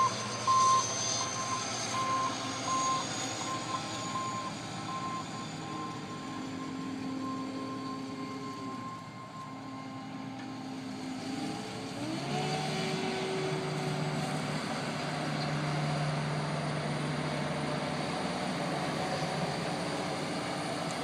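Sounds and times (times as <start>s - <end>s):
farm machinery engine running: 0.0s - 21.0s.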